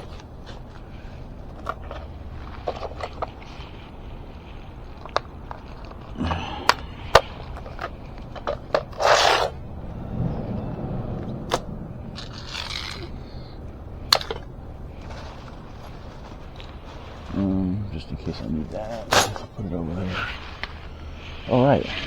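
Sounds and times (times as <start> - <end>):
scraping rustle: 0.0 - 22.0.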